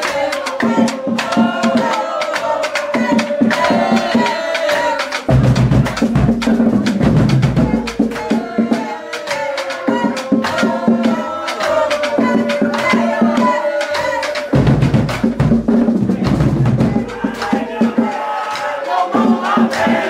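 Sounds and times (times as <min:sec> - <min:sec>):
drumline strikes: 0:00.0 - 0:20.0.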